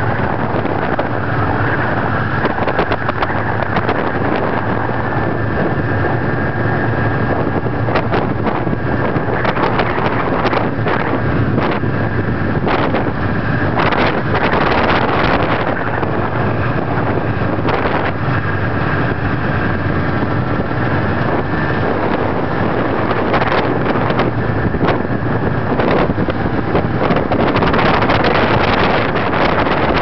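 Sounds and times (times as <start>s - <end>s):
snowmobile engine running: 0.0s - 30.0s
wind on microphone: 0.0s - 30.0s.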